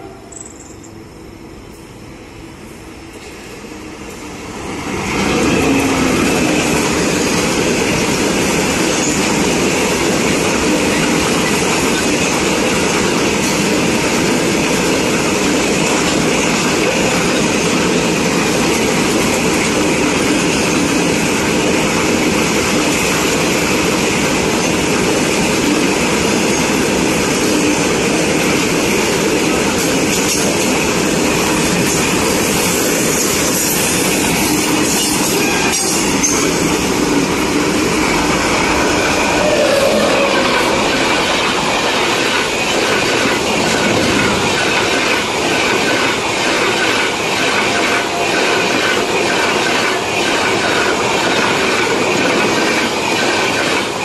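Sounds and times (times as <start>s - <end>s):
goods train wheels rumbling: 0.0s - 54.0s.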